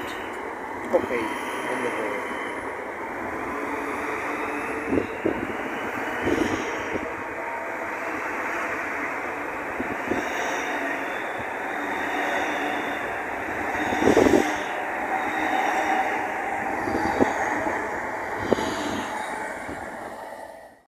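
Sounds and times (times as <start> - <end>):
high whine: 0.0 - 20.8
train rushing past: 0.0 - 20.9.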